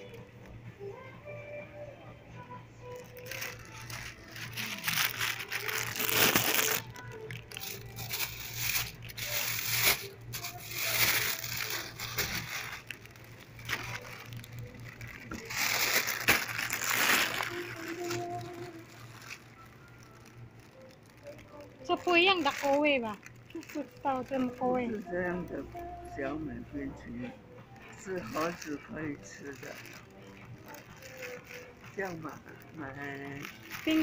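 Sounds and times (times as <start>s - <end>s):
plastic bag crinkling: 2.8s - 34.0s.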